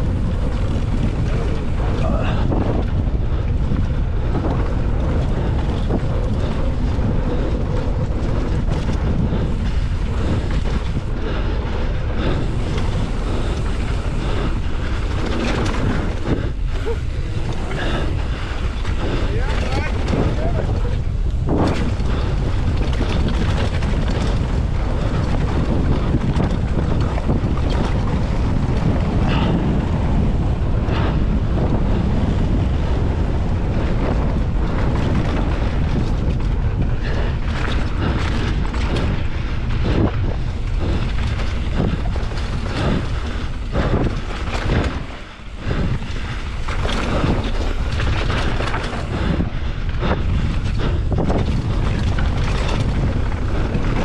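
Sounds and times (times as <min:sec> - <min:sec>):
bike rattles and knocks: 0:00.0 - 0:54.0
tyres rumbling on dirt trail: 0:00.0 - 0:54.0
wind buffeting microphone: 0:00.0 - 0:54.0.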